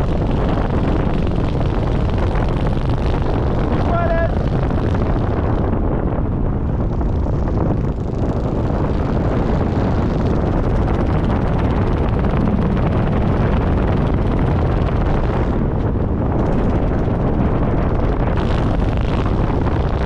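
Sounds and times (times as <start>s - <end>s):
wind roaring over microphone: 0.0s - 20.0s.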